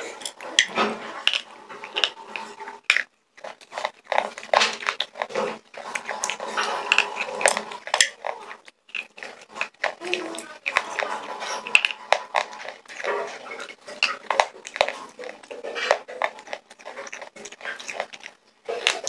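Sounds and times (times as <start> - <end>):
slate pencils crunching: 0.0 - 19.0.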